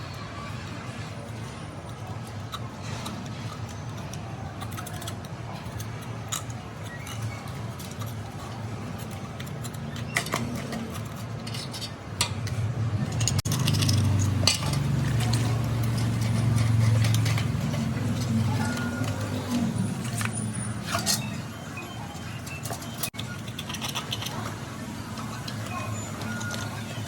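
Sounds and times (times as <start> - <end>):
metal parts and tools clinking: 0.6 - 27.0.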